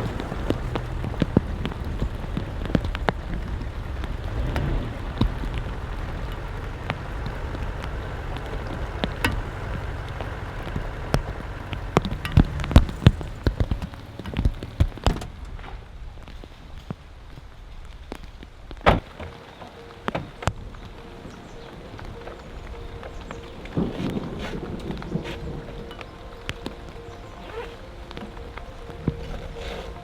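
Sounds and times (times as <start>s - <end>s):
heavy rain falling: 0.0s - 30.0s
large raindrops tapping: 0.0s - 30.0s.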